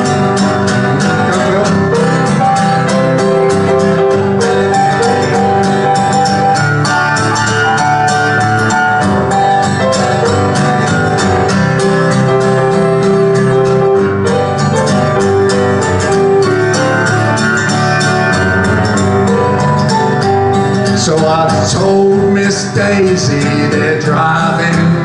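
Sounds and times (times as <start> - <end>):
acoustic guitar strumming: 0.0 - 25.0
piano accompaniment: 0.0 - 25.0.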